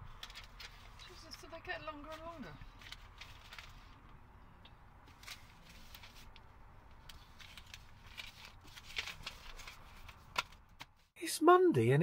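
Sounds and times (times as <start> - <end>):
paper receipts rustling: 0.0 - 4.2, 5.0 - 11.1.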